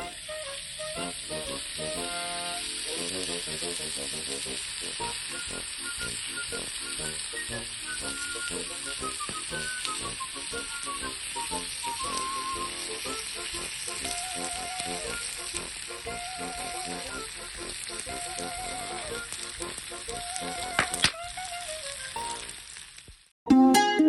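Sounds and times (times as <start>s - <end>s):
soft background music: 0.0s - 2.9s, 5.0s - 22.5s
food sizzling in a pan: 0.0s - 23.3s.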